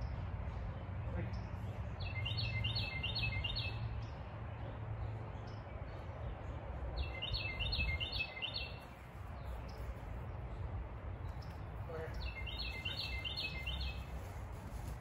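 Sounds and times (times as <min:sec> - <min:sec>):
songbird singing repeated notes: 0:00.8 - 0:14.2.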